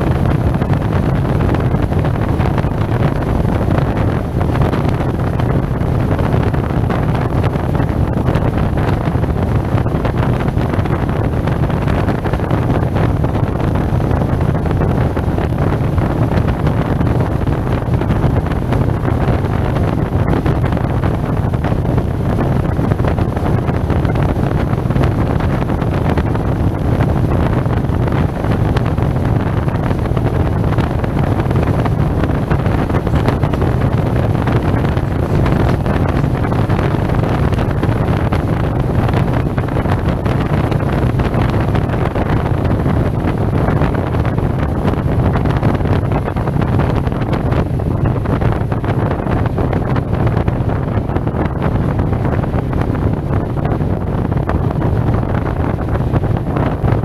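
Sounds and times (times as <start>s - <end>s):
engine and road drone: 0.0s - 57.0s
wind rush on microphone: 0.0s - 57.0s.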